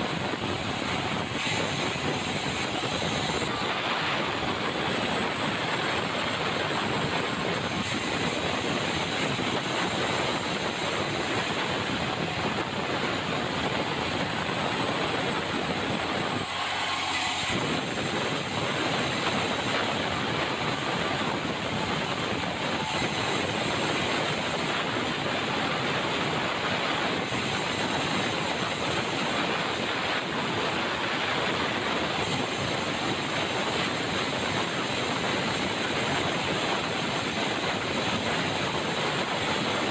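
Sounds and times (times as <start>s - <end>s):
sawmill saw cutting timber: 0.0s - 38.8s.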